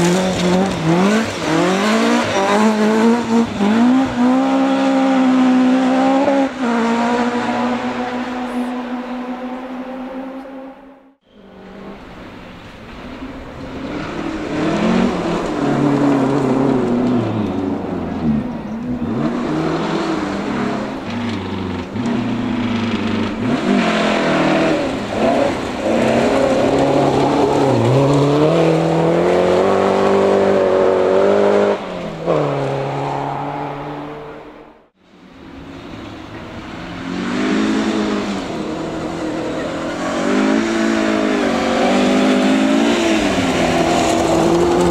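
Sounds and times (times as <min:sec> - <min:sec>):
rally car engine revving: 0:00.0 - 0:12.4, 0:13.0 - 0:34.9, 0:35.7 - 0:44.9.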